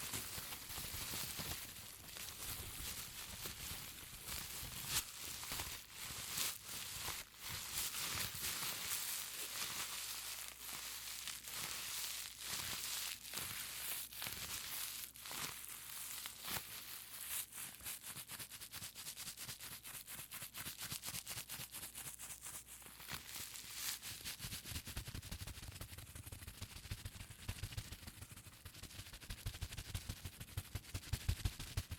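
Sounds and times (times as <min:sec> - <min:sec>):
bubble wrap crackling: 0:00.0 - 0:31.9.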